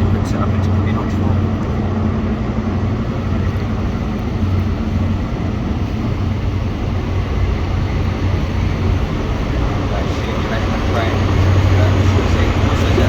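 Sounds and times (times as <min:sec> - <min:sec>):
train diesel engine droning: 0:00.0 - 0:13.0.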